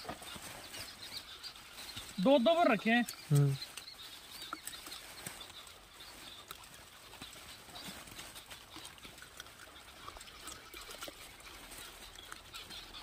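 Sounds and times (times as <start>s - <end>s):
rustling of leafy greens: 0.0s - 13.0s.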